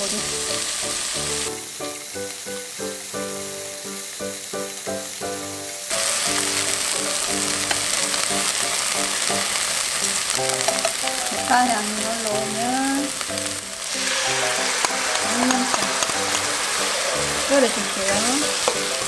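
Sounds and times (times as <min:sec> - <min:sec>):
background music: 0:00.0 - 0:19.0
onions sizzling in hot oil: 0:00.0 - 0:19.0.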